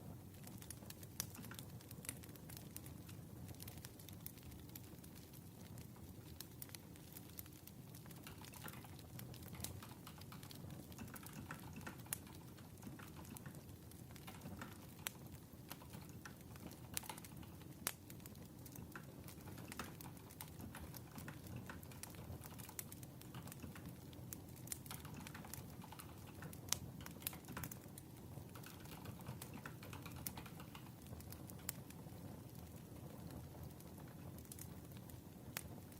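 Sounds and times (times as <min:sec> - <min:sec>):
crackling wood fire: 0:00.0 - 0:35.9.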